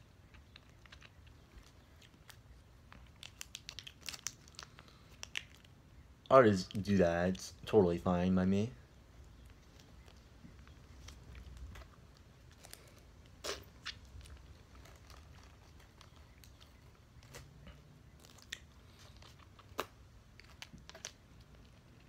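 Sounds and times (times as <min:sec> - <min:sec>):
plastic tube crinkling: 0:00.0 - 0:05.8, 0:09.2 - 0:22.0.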